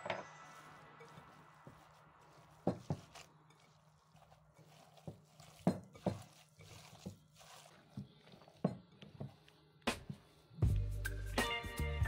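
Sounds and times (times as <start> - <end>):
hands kneading wet meat: 0.3 - 11.1.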